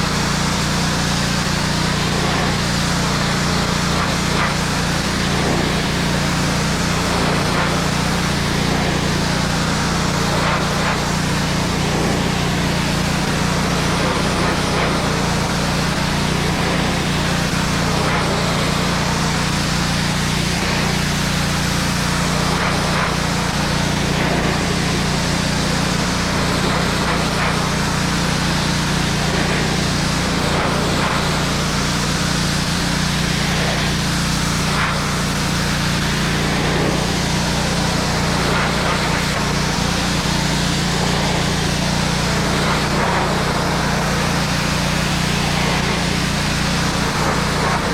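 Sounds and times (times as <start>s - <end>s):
pressure washer motor hum: 0.0s - 47.9s
water jet hissing on wood: 0.0s - 47.9s.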